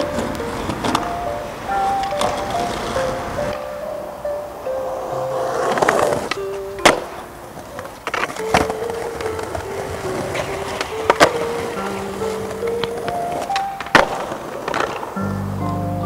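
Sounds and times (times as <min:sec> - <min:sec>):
skateboard clacking on ground: 0:00.0 - 0:15.9
background music: 0:00.0 - 0:16.0
skateboard rolling on concrete: 0:00.0 - 0:16.0.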